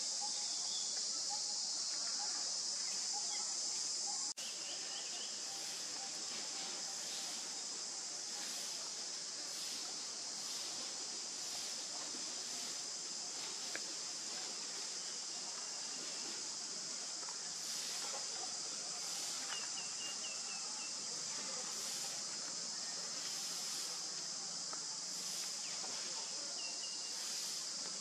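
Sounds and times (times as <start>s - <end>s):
faint chirps: 0.0s - 28.0s
insects droning: 0.0s - 28.0s.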